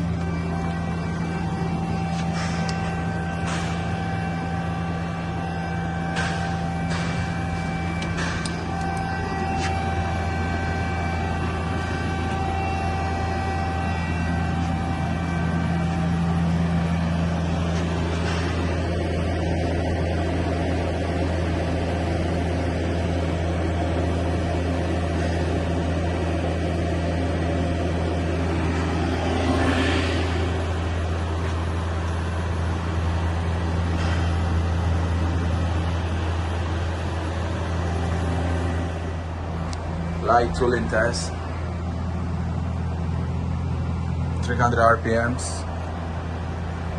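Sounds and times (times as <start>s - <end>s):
high whining tones: 0.0s - 46.9s
lathe machine hum: 0.0s - 46.9s.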